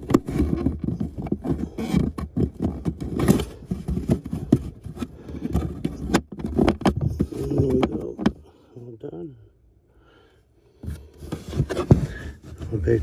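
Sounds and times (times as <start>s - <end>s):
plastic clicks knocks and scrapes: 0.0s - 8.4s, 10.8s - 13.0s.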